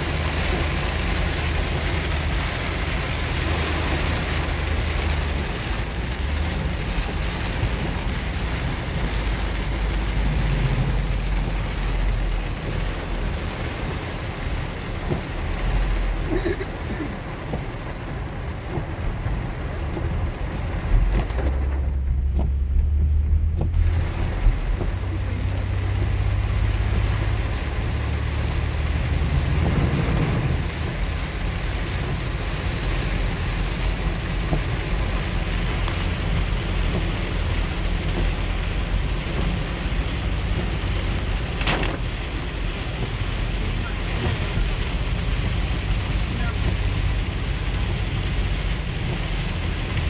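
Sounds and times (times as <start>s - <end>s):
heavy rain on car: 0.0s - 50.0s
steady low rumble: 0.0s - 50.0s
tyres on wet road: 0.0s - 50.0s
water spraying over windshield: 0.0s - 50.0s.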